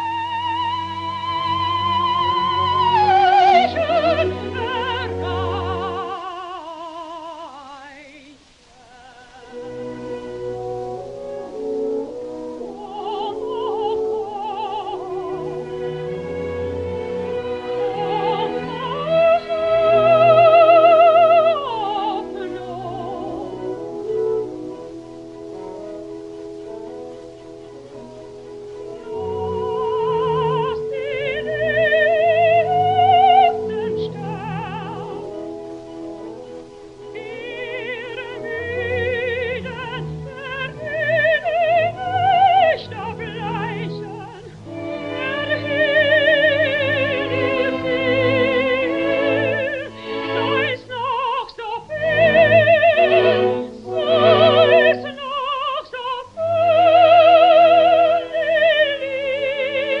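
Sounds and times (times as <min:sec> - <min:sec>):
operatic singing: 0:00.0 - 1:00.0
instrumental accompaniment: 0:09.4 - 1:00.0.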